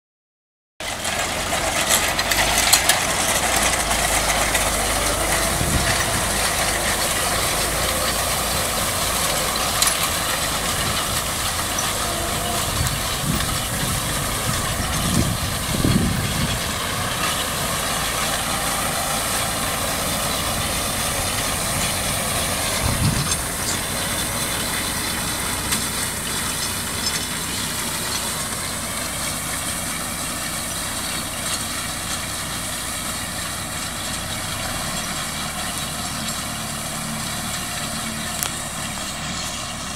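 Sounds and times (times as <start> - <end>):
tractor diesel engine running: 0.8 - 39.9.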